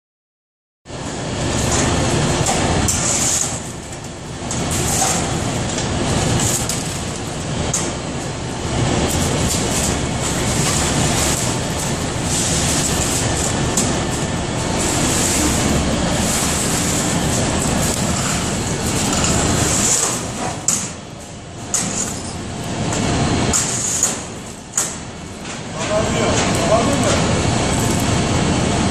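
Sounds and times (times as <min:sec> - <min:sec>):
boiler fire rumbling: 0:00.9 - 0:28.9.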